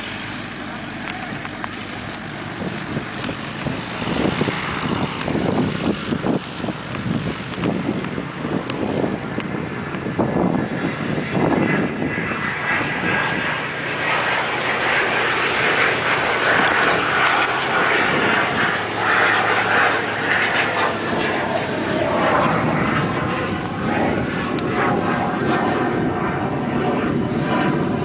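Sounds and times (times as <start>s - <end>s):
aircraft flying past: 0.0s - 28.0s
high whine falling in pitch: 0.0s - 28.0s
wind gusts on microphone: 0.0s - 28.0s.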